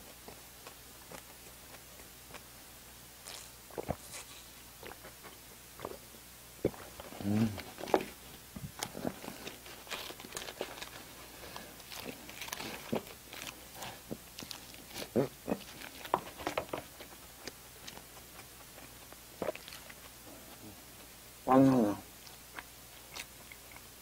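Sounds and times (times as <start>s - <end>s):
person chewing food: 0.0s - 21.2s, 22.1s - 24.0s.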